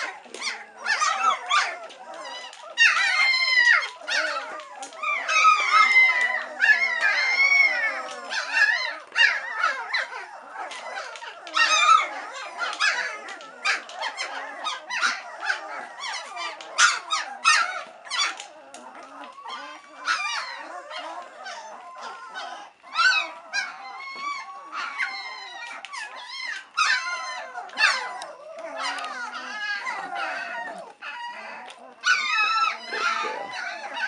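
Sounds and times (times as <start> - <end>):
puppies whining and crying: 0.0 - 34.0.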